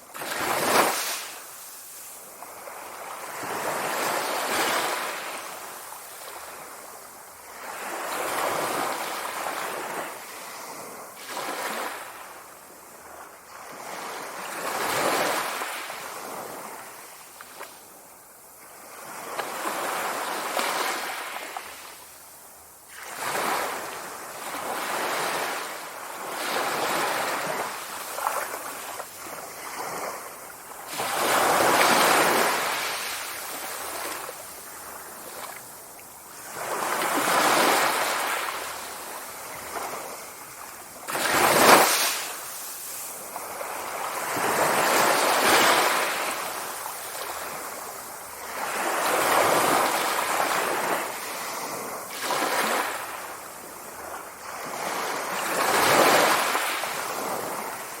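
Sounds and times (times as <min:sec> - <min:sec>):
waves breaking on shore: 0:00.0 - 0:22.3, 0:22.9 - 0:58.0.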